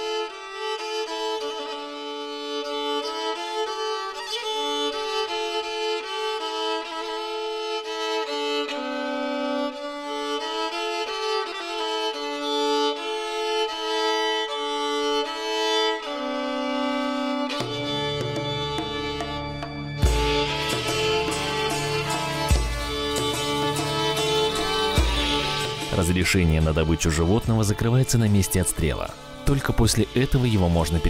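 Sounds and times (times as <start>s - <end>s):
violin melody: 0.0s - 31.0s.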